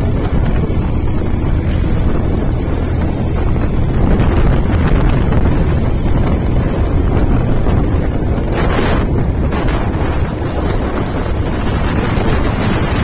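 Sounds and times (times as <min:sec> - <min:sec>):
motorcycle rumble: 0:00.0 - 0:13.0
wind buffeting microphone: 0:00.0 - 0:13.0.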